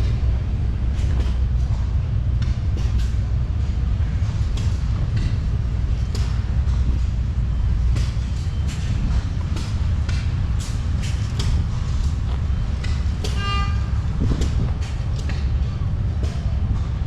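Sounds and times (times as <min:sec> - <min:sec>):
old engines rumbling: 0:00.0 - 0:17.0.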